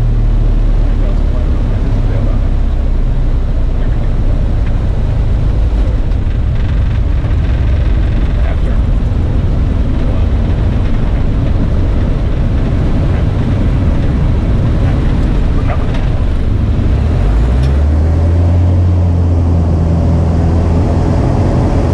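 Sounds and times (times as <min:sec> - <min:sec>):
aircraft engine rumble: 0:00.0 - 0:21.9
rushing wind: 0:00.0 - 0:21.9.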